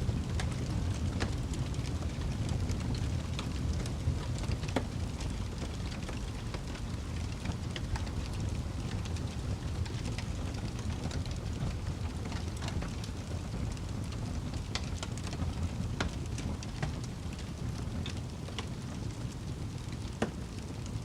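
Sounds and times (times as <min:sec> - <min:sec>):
campfire low rumble: 0:00.0 - 0:21.0
wood crackling and popping: 0:00.0 - 0:21.0.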